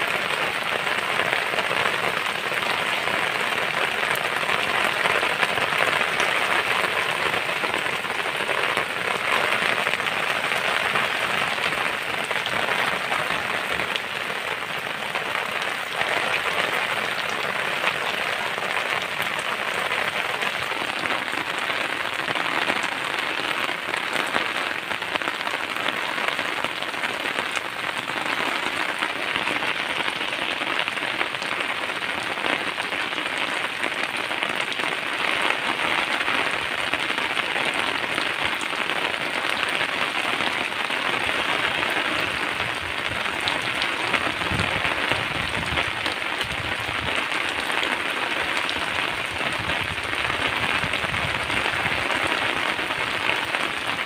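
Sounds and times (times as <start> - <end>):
heavy rain on pavement and leaves: 0.0 - 54.0.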